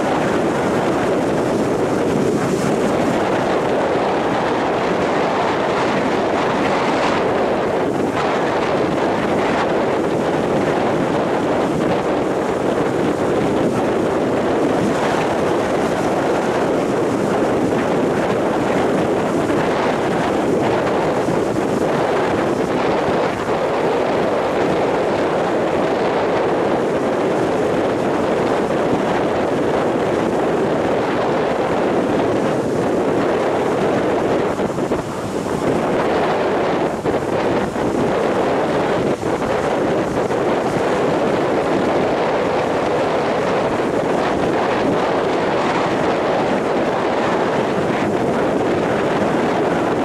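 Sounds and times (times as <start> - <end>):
storm surf breaking on beach: 0.0 - 50.0
wind blowing across microphone: 0.0 - 50.0.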